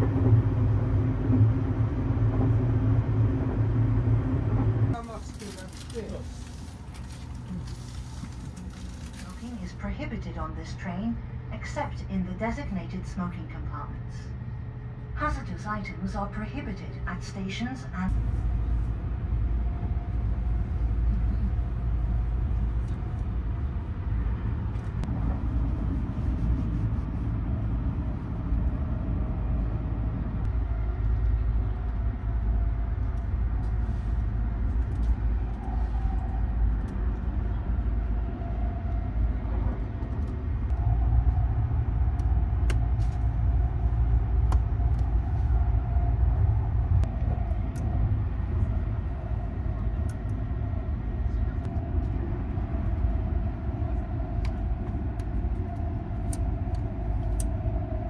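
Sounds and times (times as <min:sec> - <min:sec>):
faint steady hum: 0:00.0 - 0:58.0
train rumbling: 0:00.0 - 0:58.0.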